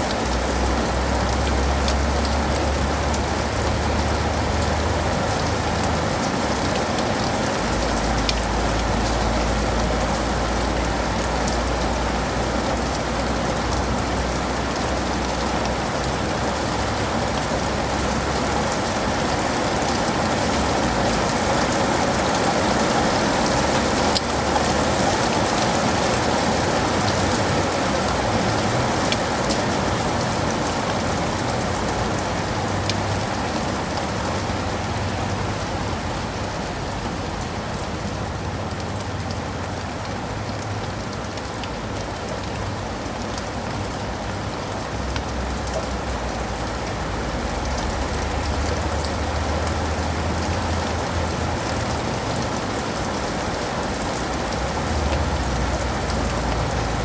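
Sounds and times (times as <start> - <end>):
rain on leaves and pavement: 0.0 - 57.0.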